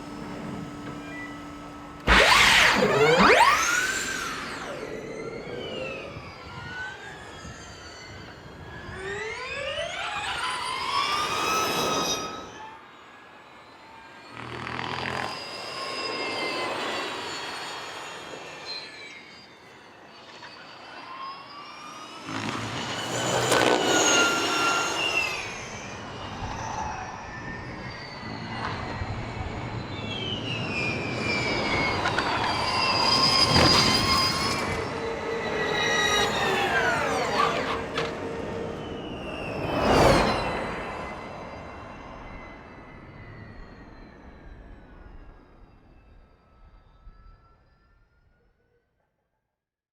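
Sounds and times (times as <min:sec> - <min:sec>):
electric race cars whining past: 0:00.0 - 0:47.9.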